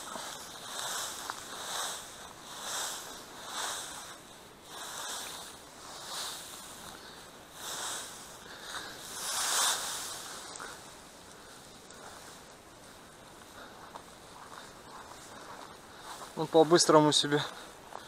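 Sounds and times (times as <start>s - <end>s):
dry straw rustling and crunching: 0.0s - 18.0s.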